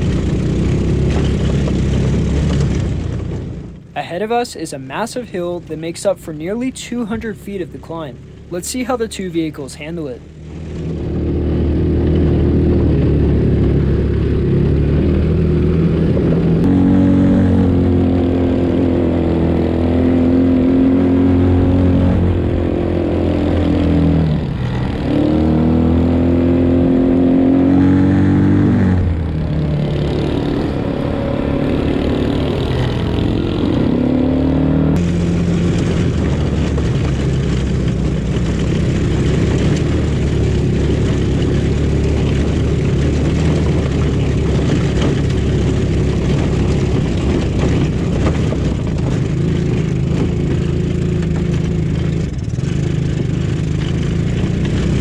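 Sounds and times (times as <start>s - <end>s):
small engines revving uphill: 0.0s - 55.0s.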